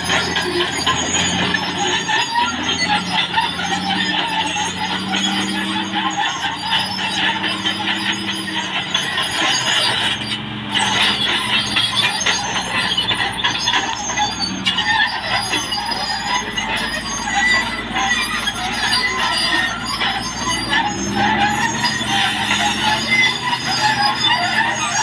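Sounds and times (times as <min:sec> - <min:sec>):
bulldozer diesel engine: 0:00.0 - 0:25.0
steel tracks squeaking and rattling: 0:00.0 - 0:25.0.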